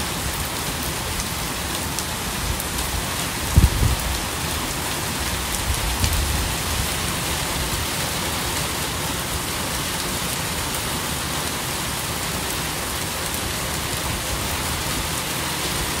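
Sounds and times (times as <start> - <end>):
rain on gravel and foliage: 0.0 - 16.0.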